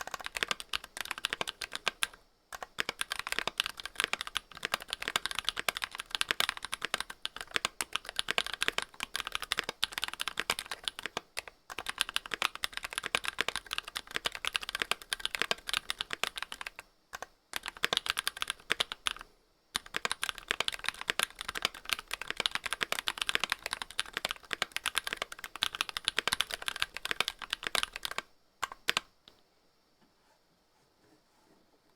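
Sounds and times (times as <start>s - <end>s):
fast keyboard typing: 0.0s - 29.1s.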